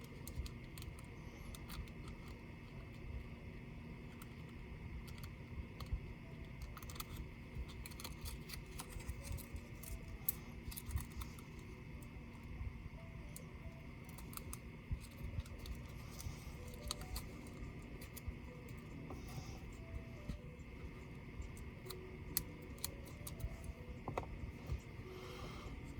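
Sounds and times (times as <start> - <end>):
faint hum: 0.0 - 25.9.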